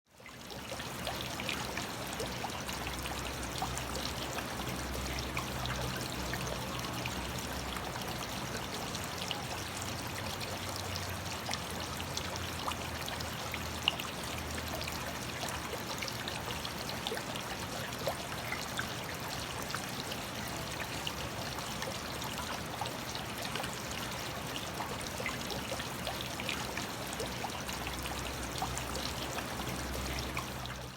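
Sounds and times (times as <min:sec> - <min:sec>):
aquarium water trickling: 0:00.1 - 0:30.9.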